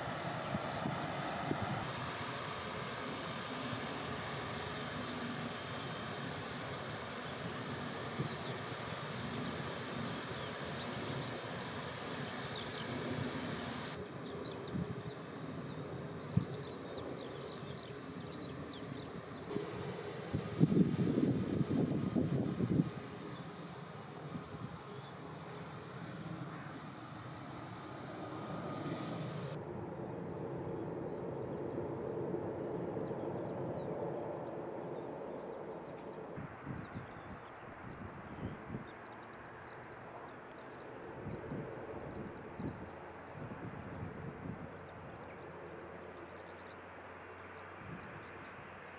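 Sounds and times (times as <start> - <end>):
jet engines rumbling and hissing: 0.0 - 48.9
small birds chirping faintly: 0.0 - 48.9.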